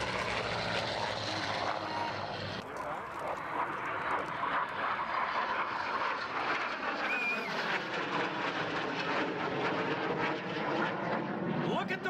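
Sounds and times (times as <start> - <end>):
airplane engine drone: 0.0 - 12.0.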